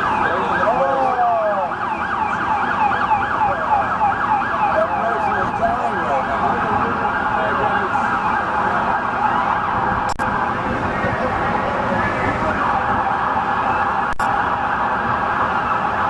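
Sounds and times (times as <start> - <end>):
sirens wailing: 0.0 - 16.0
sirens yelping: 0.0 - 16.0
steady background noise: 0.0 - 16.0.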